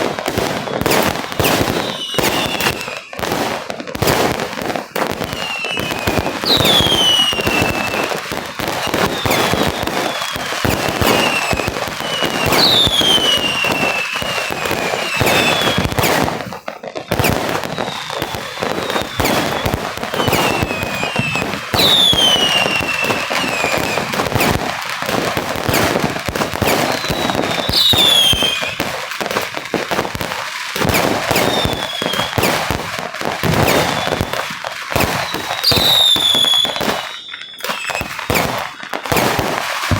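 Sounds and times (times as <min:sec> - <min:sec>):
falling firework whistle: 0:00.0 - 0:29.6, 0:30.8 - 0:32.8, 0:33.4 - 0:39.9
fireworks crackling bangs: 0:00.0 - 0:39.9.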